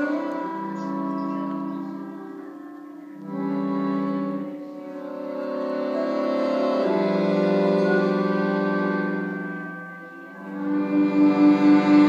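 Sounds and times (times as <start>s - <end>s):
layered electronic tones: 0.0s - 12.0s.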